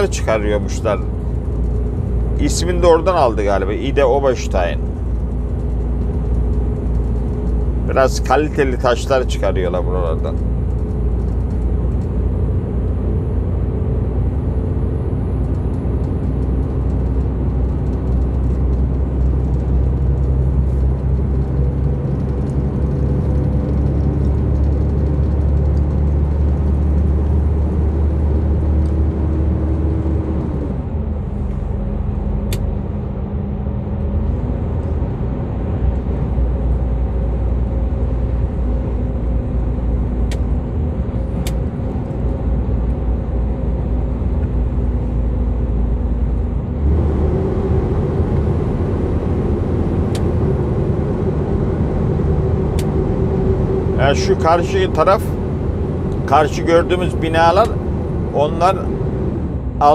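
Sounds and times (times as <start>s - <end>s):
diesel lorry engine drone: 0.0s - 59.9s
road noise: 0.0s - 59.9s.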